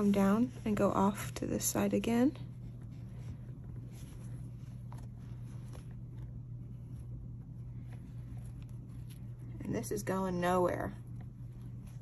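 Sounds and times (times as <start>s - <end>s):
soft scratches and light ticks: 0.0s - 10.2s
steady low hum: 0.0s - 12.0s.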